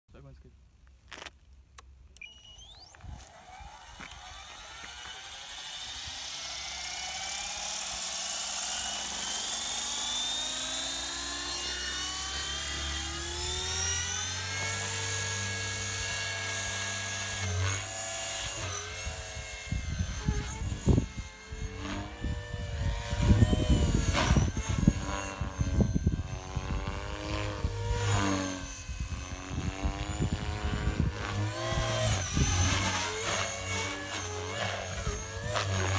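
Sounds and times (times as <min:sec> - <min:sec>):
rc helicopter rotor whine: 0:02.1 - 0:35.9.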